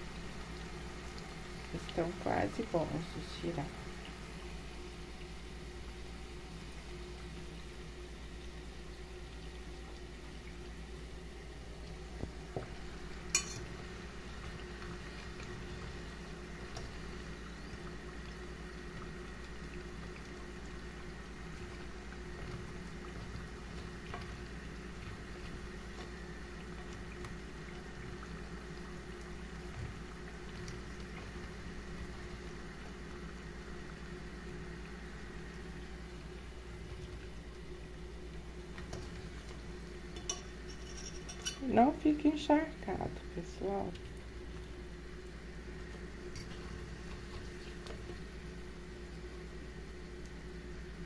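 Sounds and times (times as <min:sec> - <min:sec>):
dough frying in oil: 0:00.0 - 0:51.0.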